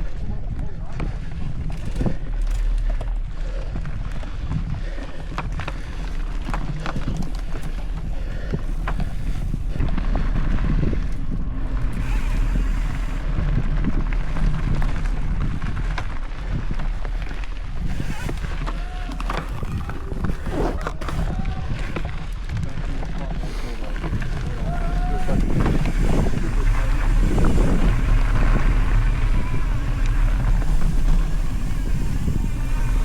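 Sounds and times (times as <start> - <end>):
bike rattling and knocking: 0.0 - 33.0
tyres rumbling on dirt: 0.0 - 33.0
wind buffeting microphone: 0.0 - 33.0.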